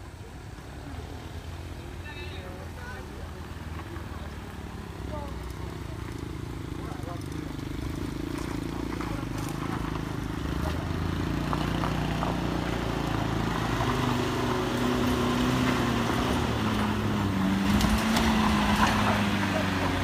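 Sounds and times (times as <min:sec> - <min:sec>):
minibus engine climbing hill: 0:00.0 - 0:20.0.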